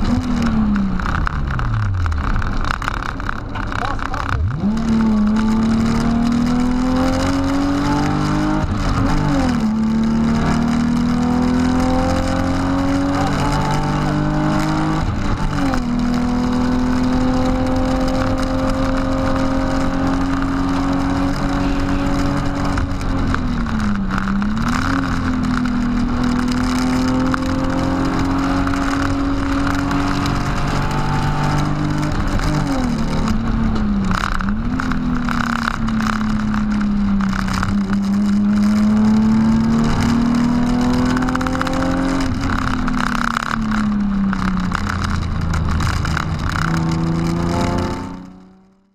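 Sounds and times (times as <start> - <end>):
car engine under full throttle: 0.0 - 48.9.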